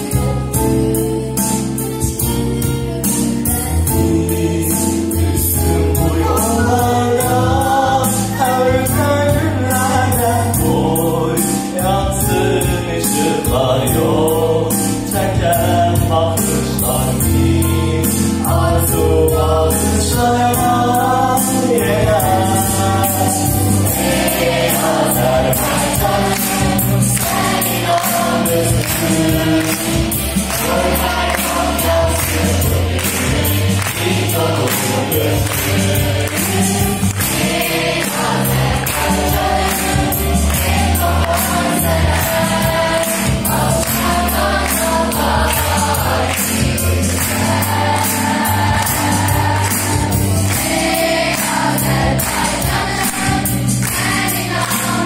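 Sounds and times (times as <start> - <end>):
instrumental accompaniment with beat: 0.0 - 55.0
choir singing: 3.5 - 55.0.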